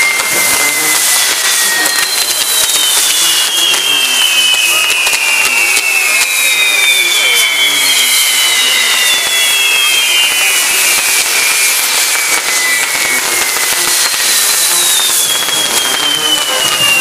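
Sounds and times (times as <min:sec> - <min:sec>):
fireworks hissing: 0:00.0 - 0:17.0
fireworks whistles gliding down: 0:00.0 - 0:17.0.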